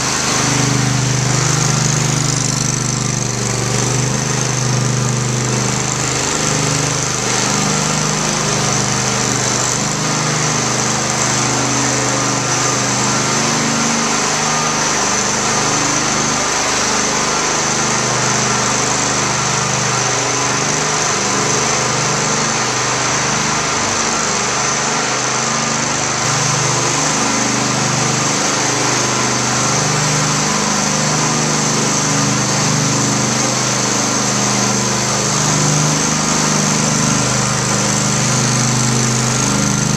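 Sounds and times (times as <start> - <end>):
floor burnisher engine drone: 0.0 - 39.9.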